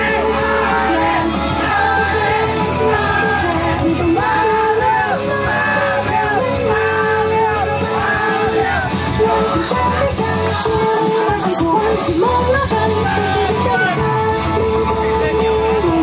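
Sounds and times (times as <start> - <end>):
backing track over loudspeakers: 0.0 - 16.0
women singing pop song: 0.0 - 16.0.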